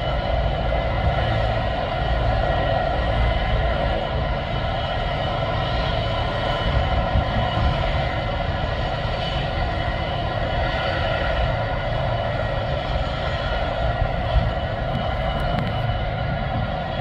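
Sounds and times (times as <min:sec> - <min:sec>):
helicopter turbine whine: 0:00.0 - 0:17.0.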